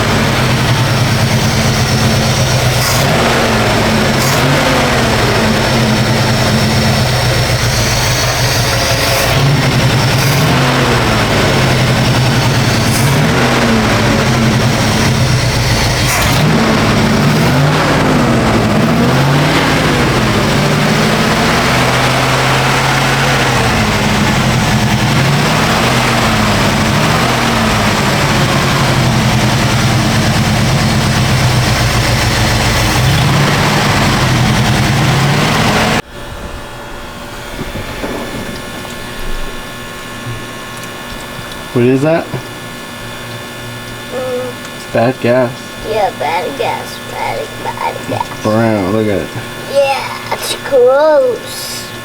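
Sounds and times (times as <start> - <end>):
vee eight engine revving: 0.0 - 36.1, 37.5 - 52.0.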